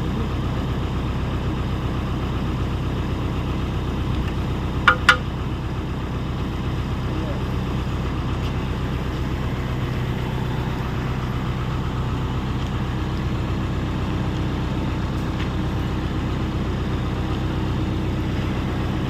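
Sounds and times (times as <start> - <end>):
excavator diesel engine idling: 0.0 - 19.0.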